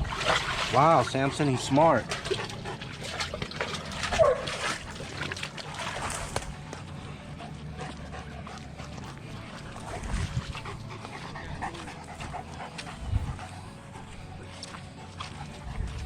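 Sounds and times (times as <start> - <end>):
dog panting: 0.0 - 16.0
dull low bumps: 1.6 - 16.0.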